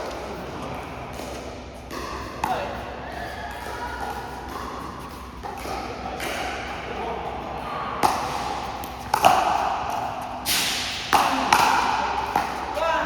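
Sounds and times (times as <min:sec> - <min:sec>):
voices: 0:00.0 - 0:13.0.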